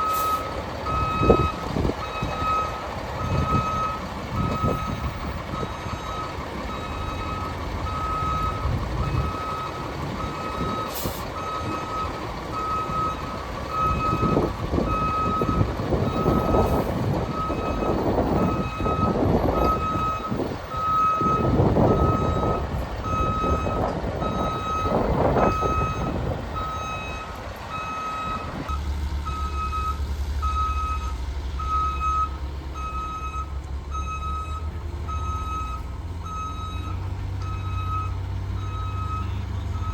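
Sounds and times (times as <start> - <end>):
diesel engine rumble: 0.0 - 39.9
reversing alarm beeping: 0.0 - 39.9.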